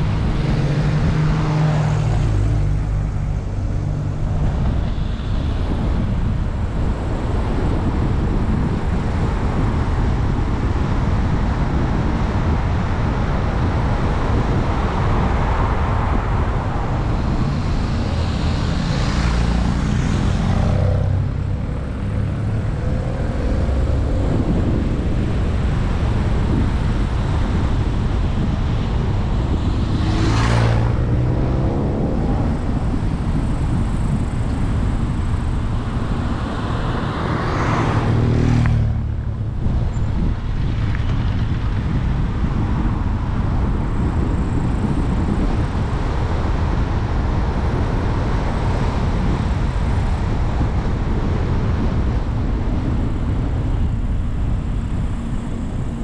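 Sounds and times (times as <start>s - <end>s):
car tyre and wind noise: 0.0s - 56.0s
vehicles passing by: 0.0s - 56.0s.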